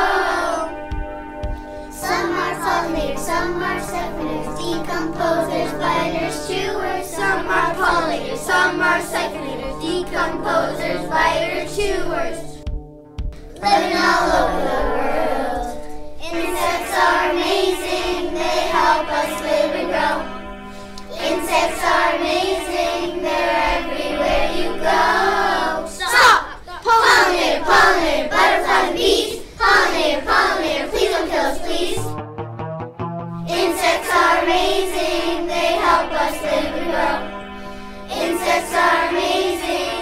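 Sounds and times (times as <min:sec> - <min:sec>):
children singing: 0:00.0 - 0:00.8, 0:01.9 - 0:12.6, 0:13.6 - 0:32.1, 0:33.5 - 0:37.4, 0:38.0 - 0:40.0
background music: 0:00.0 - 0:40.0.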